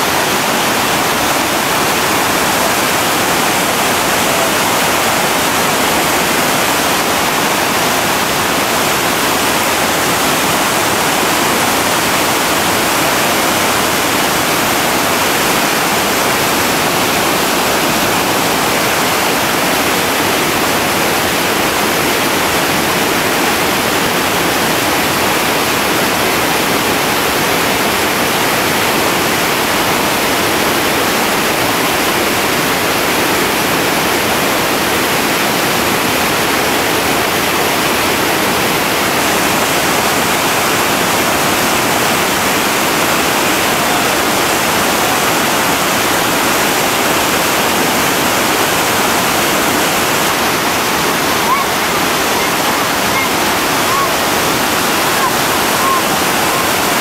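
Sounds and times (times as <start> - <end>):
whitewater rapid rushing: 0.0 - 57.0.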